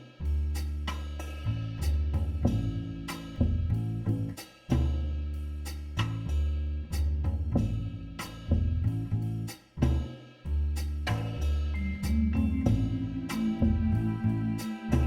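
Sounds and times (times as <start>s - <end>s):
music with drums bass and guitar: 0.0s - 15.0s.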